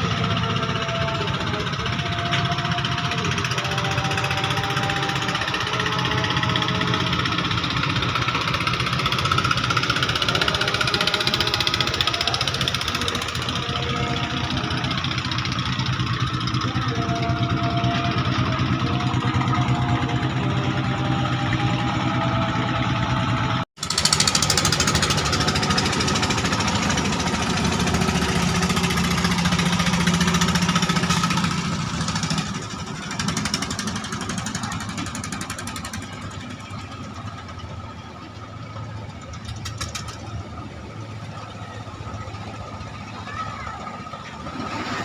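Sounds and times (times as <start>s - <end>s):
boat engine knocking: 0.0s - 44.7s
louder boat engine: 0.0s - 45.0s.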